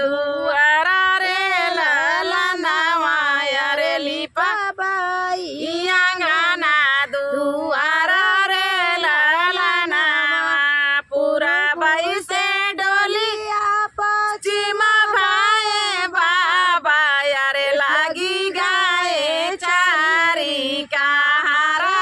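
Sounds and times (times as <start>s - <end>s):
women singing unaccompanied: 0.0s - 22.0s.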